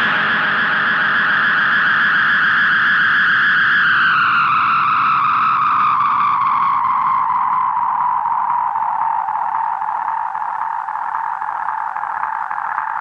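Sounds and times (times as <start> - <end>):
guitar amp feedback tone: 0.0 - 13.0.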